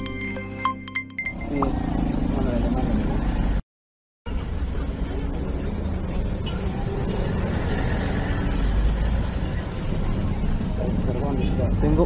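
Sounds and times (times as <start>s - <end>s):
traffic rumble: 1.4s - 3.6s, 4.3s - 12.0s.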